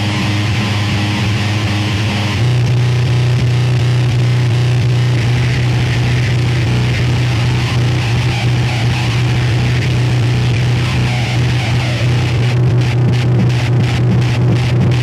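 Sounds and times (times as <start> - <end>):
dense static: 0.0 - 15.0
loud low hum: 0.0 - 15.0.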